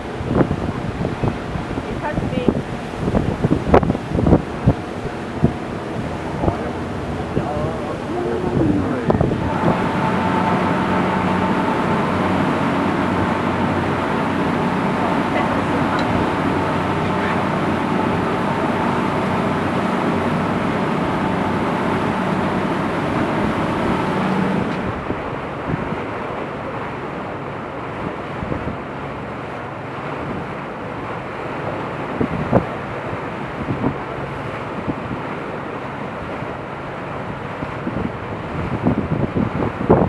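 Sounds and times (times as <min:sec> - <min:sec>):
wind rushing over microphone: 0:00.0 - 0:26.4, 0:30.0 - 0:35.4, 0:37.3 - 0:40.0
boat engine running: 0:00.0 - 0:40.0.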